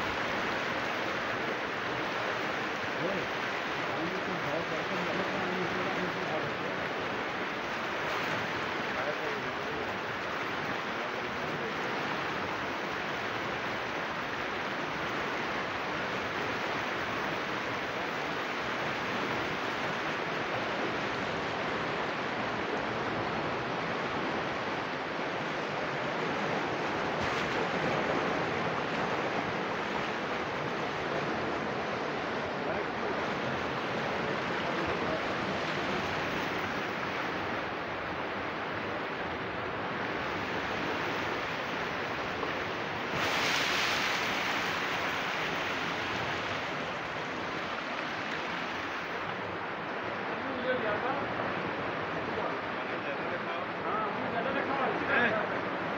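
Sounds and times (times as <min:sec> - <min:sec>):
river floodwater rushing: 0:00.0 - 0:55.9.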